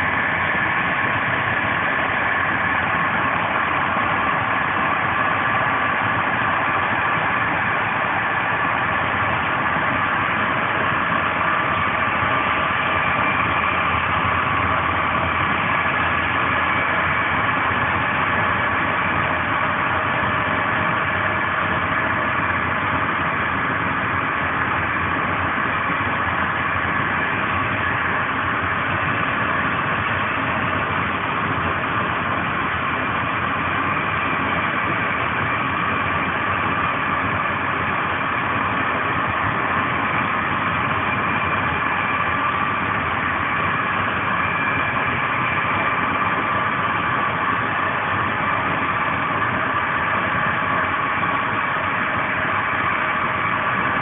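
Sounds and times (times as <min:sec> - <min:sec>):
faint steady tones: 0:00.0 - 0:54.0
train running noise at speed: 0:00.0 - 0:54.0.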